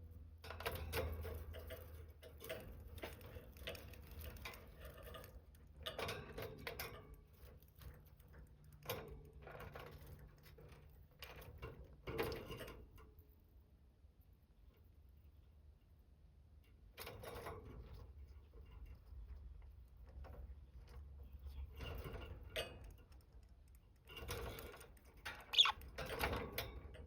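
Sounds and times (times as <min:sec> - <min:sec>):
bird ticking and scratching: 0:00.4 - 0:13.3, 0:16.7 - 0:27.0.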